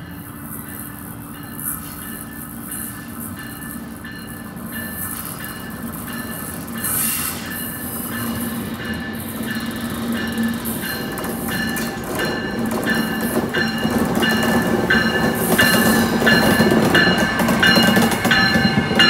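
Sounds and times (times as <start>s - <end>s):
electric train hum: 0.0s - 19.0s.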